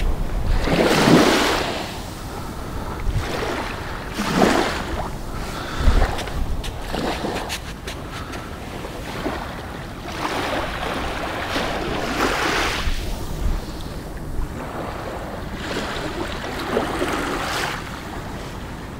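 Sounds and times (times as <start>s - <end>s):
small waves washing on shore: 0.0s - 18.9s
wind rumble on microphone: 0.0s - 18.9s.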